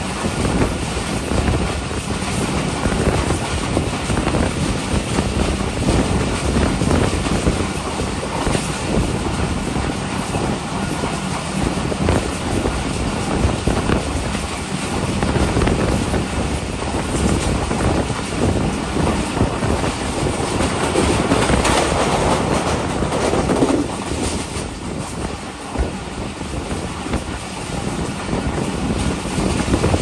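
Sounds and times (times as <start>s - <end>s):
train wheels clickety-clack: 0.0s - 30.0s.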